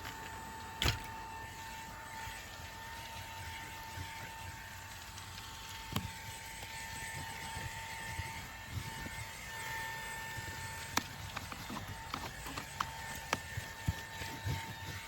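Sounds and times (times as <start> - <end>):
handheld vacuum running: 0.0 - 15.0.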